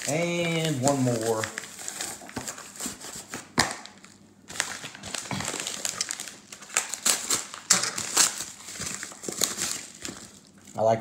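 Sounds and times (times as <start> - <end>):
cardboard crinkling and rustling: 0.0 - 10.7.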